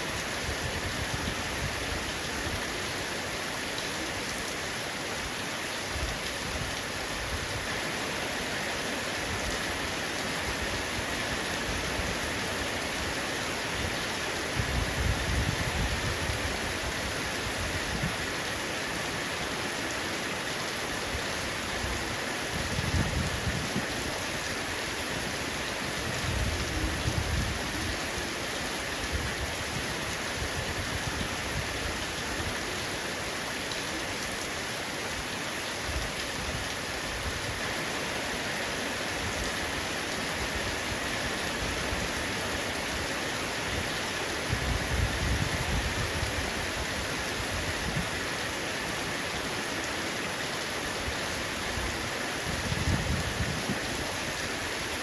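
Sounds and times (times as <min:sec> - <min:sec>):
heavy rain on a roof: 0:00.0 - 0:55.0.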